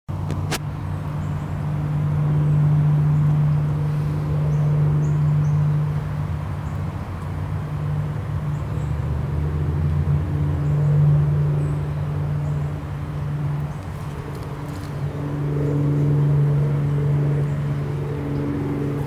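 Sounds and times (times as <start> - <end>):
engine humming: 0.1 - 19.0.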